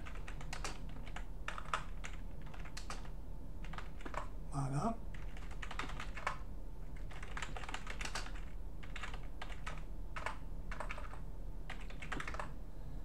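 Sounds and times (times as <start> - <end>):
typing on keyboard: 0.0 - 4.3, 5.1 - 12.6.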